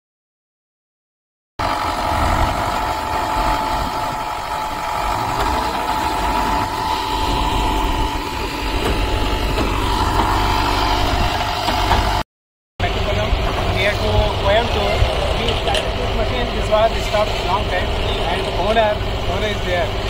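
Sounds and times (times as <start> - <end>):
machine engine rumbling and whining: 1.6 - 12.2, 12.8 - 20.0.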